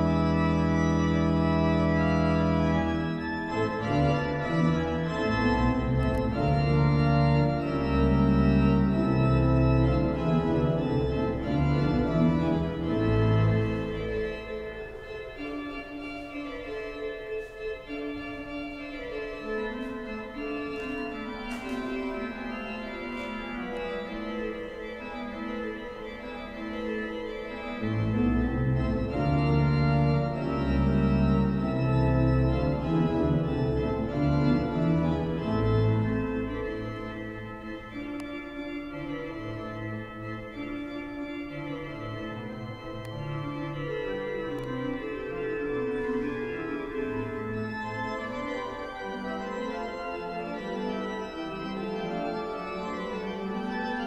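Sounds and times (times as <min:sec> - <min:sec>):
deep organ bass notes: 0:00.0 - 0:17.2, 0:23.8 - 0:54.0
organ chords: 0:00.0 - 0:54.0.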